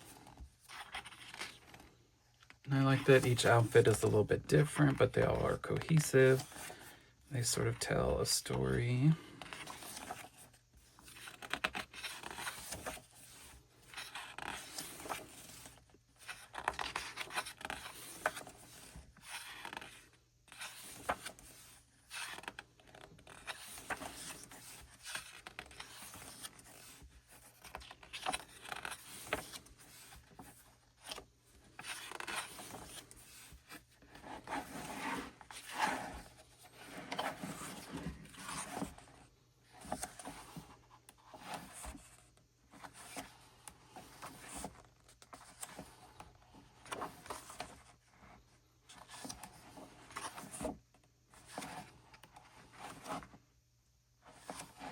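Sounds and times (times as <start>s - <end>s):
photo book pages turning: 0.0s - 53.4s, 54.3s - 54.9s.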